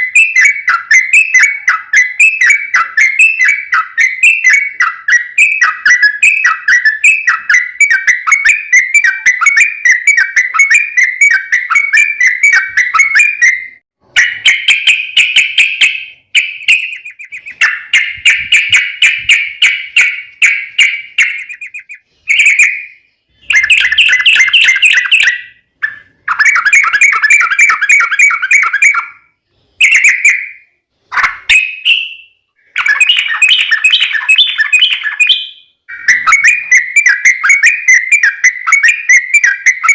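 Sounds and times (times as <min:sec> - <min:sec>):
bird singing loudly: 0:00.0 - 0:39.9.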